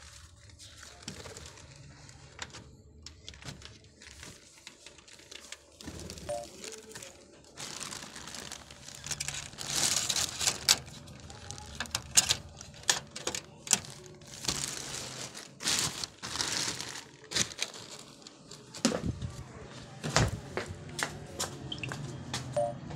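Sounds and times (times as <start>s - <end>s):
crinkling and rustling: 0.0s - 21.4s.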